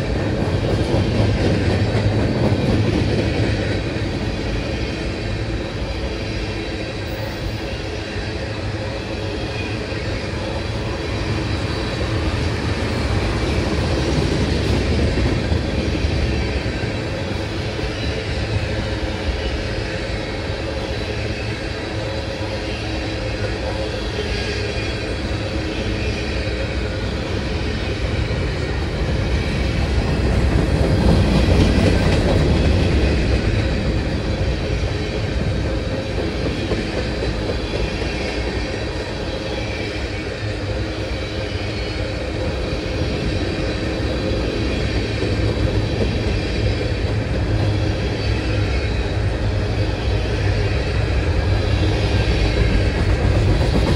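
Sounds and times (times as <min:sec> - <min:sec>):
freight train wheels rumbling: 0:00.0 - 0:53.9.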